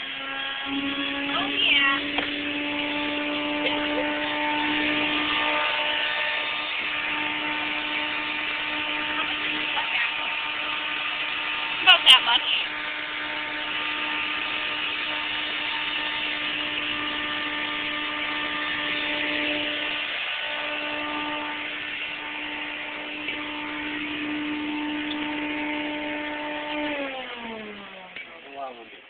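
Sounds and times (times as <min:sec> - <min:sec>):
small machine humming: 0:00.0 - 0:29.0.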